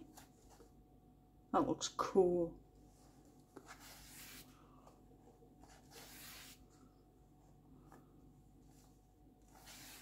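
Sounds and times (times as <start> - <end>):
faint paper rustling: 0.0 - 0.8, 2.7 - 10.0.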